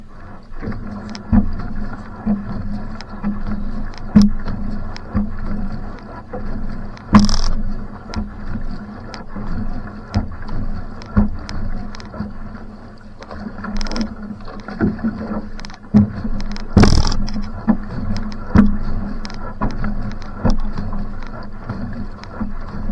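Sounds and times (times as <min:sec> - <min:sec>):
paddle splashing water: 0:00.0 - 0:22.9
steady low hum: 0:00.0 - 0:22.9
water rushing along hull: 0:00.0 - 0:22.9.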